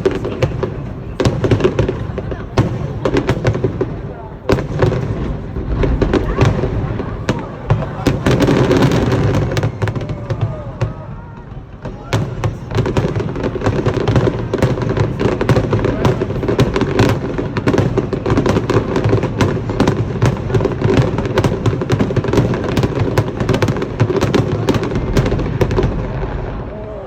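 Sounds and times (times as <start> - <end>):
fireworks bursts and crackles: 0.0 - 27.0.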